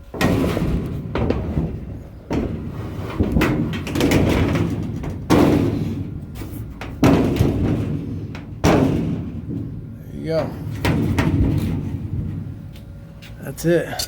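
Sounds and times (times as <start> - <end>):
heavy thuds: 0.0 - 13.7.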